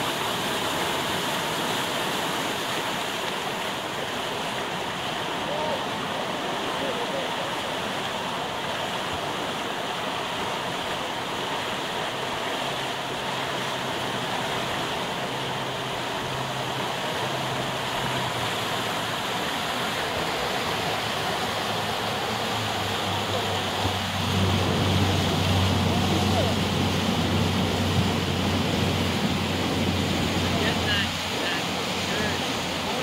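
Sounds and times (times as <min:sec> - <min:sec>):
boat engine hum: 0:00.0 - 0:33.0
white water rushing in rapids: 0:00.0 - 0:33.0.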